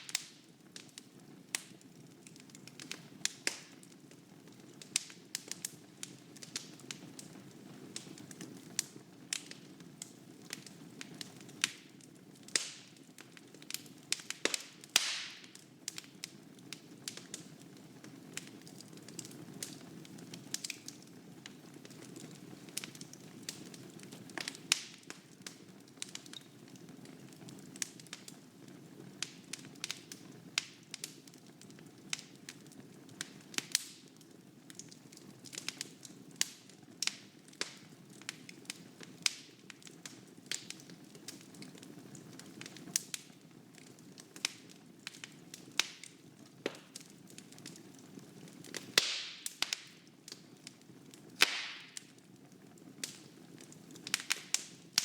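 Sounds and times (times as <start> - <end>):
wood fire crackling and popping: 0.0 - 55.0
low rumble of flames: 0.1 - 51.5.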